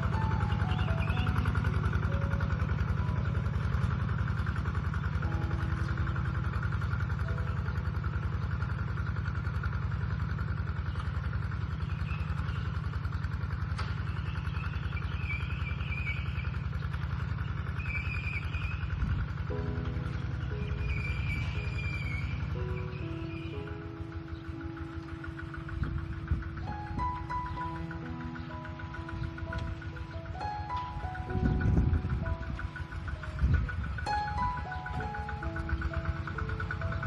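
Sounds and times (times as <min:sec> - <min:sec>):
diesel tractor engine chugging: 0:00.0 - 0:37.0.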